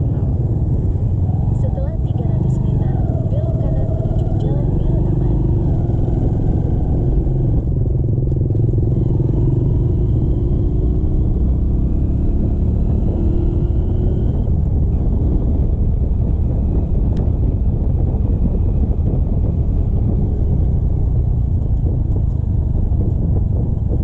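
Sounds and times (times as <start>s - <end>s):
loud low rumble: 0.0s - 24.0s
motorcycle engine running: 0.0s - 24.0s.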